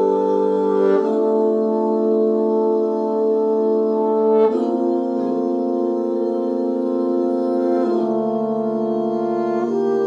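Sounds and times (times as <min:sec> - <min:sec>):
sustained chords music: 0:00.0 - 0:10.0.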